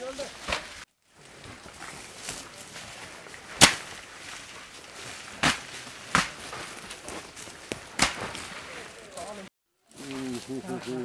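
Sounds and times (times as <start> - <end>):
branches slapping forest floor: 0.0 - 11.0.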